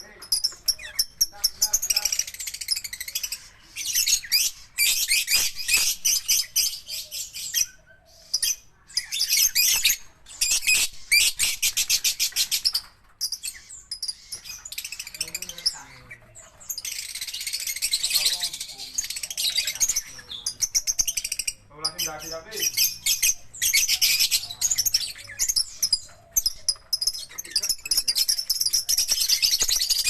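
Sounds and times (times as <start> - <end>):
lovebirds chirping: 0.0 - 30.0.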